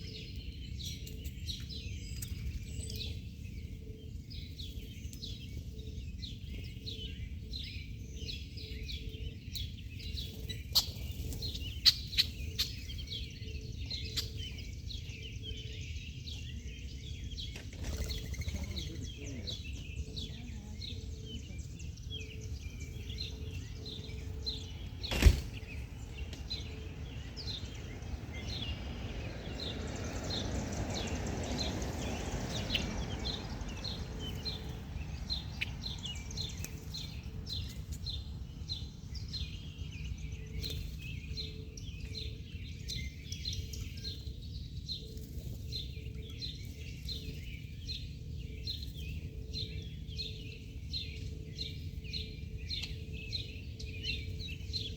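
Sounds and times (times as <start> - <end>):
low outdoor rumble: 0.0 - 54.9
songbirds chirping: 0.0 - 54.9.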